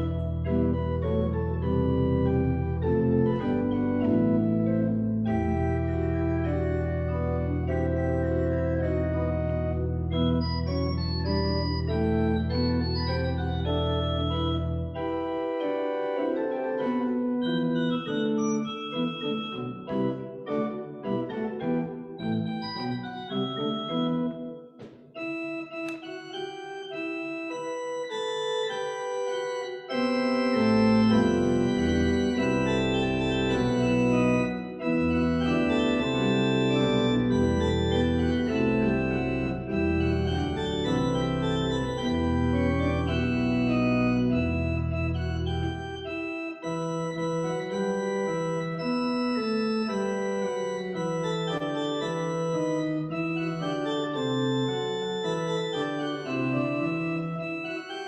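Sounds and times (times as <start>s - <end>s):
deep organ pedal bass notes: 0.0s - 24.6s, 25.2s - 58.0s
pipe organ playing chords: 0.0s - 58.0s.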